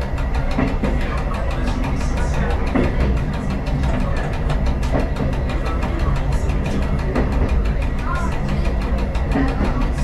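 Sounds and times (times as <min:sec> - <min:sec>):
diesel engine rumble: 0:00.0 - 0:10.0
wheels clattering on rails: 0:00.0 - 0:10.0.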